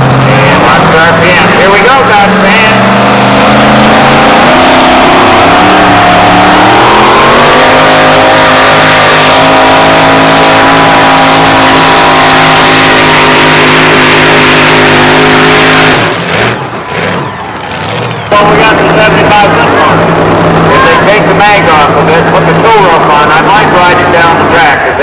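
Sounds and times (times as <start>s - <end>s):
engine revving at full throttle: 0.0s - 17.2s, 18.4s - 25.0s.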